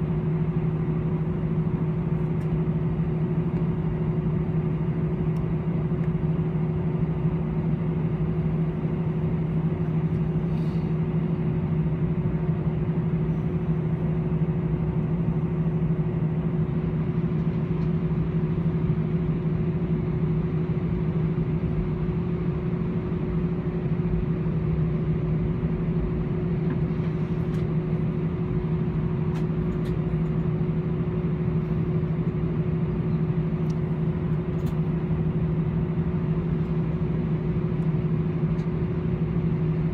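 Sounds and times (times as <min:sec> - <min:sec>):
aircraft cabin engine hum: 0:00.0 - 0:39.9.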